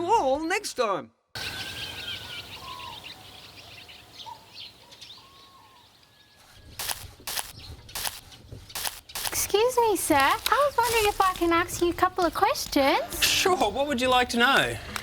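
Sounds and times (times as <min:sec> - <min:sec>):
birds chirping: 0:01.4 - 0:14.4
steady outdoor hiss: 0:01.4 - 0:15.0.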